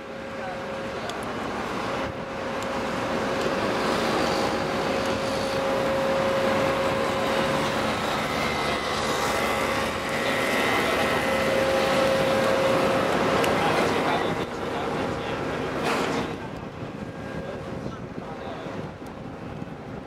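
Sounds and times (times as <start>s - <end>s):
heavy machinery running with whine: 0.0s - 20.0s.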